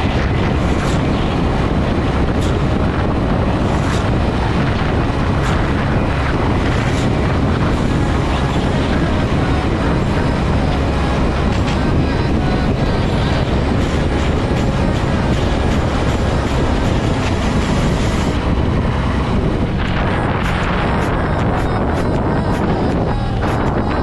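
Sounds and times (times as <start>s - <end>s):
motorcycle engine and road noise: 0.0s - 24.0s
wind buffeting microphone: 0.0s - 24.0s.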